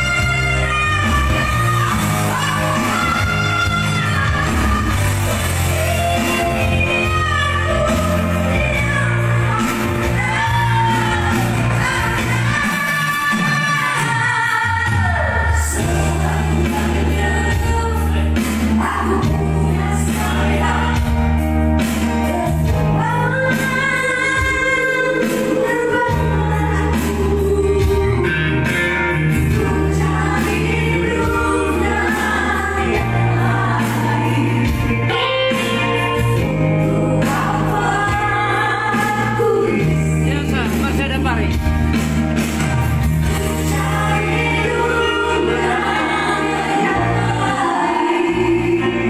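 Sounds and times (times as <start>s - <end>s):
woman singing into microphone: 0.0s - 41.7s, 43.3s - 49.0s
electronic keyboard with bass line: 0.0s - 49.0s.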